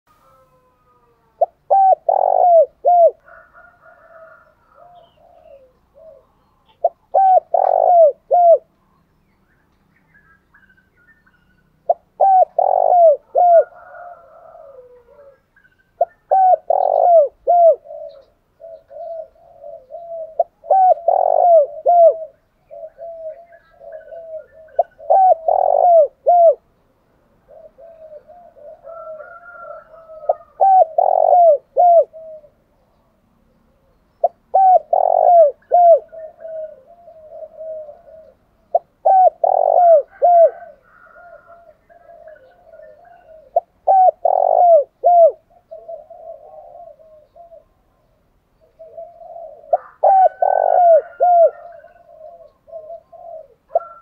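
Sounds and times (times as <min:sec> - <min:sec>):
doves cooing: 0:00.1 - 0:08.8, 0:10.6 - 0:54.0
soft murmured coos: 0:00.1 - 0:09.1, 0:11.9 - 0:26.7, 0:27.3 - 0:54.0.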